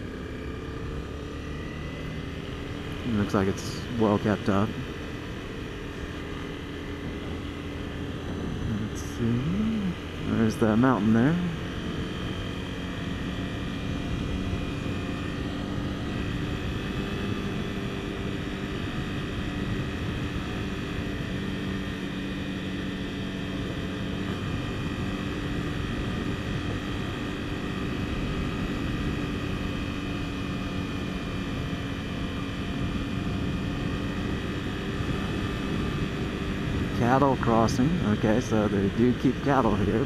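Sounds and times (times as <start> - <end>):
motorcycle engine droning: 0.0 - 40.0.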